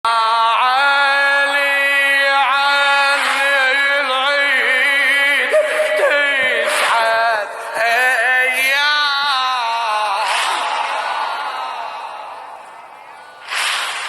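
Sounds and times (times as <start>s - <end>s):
wordless chanting: 0.1s - 14.0s.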